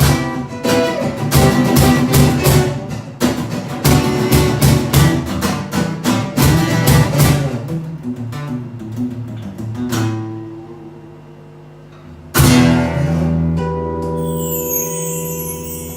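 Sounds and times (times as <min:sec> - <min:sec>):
acoustic guitar music: 0:00.0 - 0:11.0, 0:12.3 - 0:15.9.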